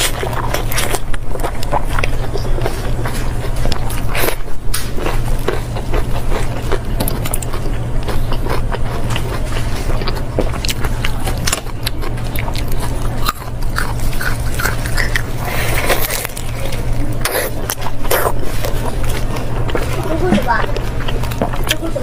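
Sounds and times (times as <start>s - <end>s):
person chewing meat: 0.0s - 22.0s.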